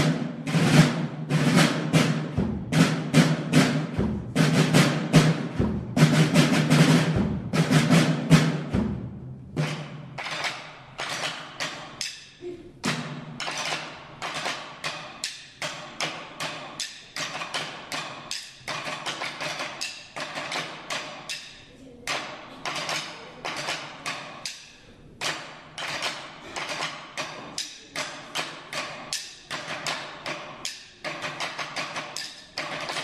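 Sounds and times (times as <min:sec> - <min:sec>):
sharp drum strikes: 0:00.0 - 0:33.0.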